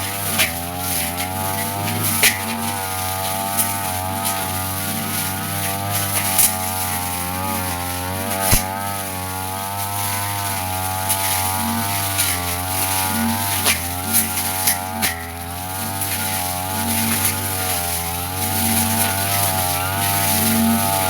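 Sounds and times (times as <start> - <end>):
blade ticking on stems: 0.0 - 21.0
brush cutter running: 0.0 - 21.0.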